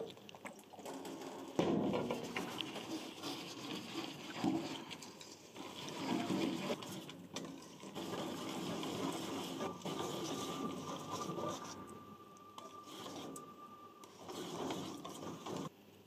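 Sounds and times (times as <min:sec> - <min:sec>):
whisk scraping metal bowl: 0:01.0 - 0:15.7.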